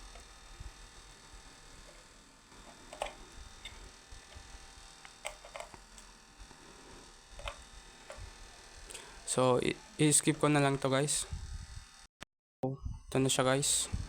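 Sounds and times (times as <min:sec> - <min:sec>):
faint mains hum: 0:00.0 - 0:12.1, 0:12.7 - 0:14.0.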